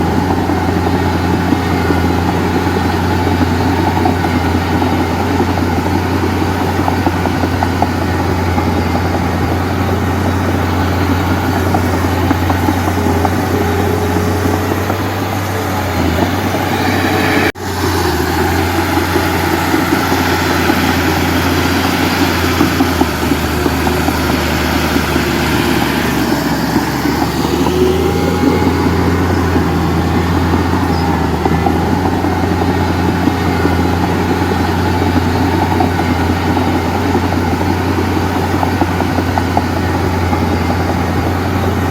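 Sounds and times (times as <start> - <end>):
diesel engine droning: 0.0 - 41.9.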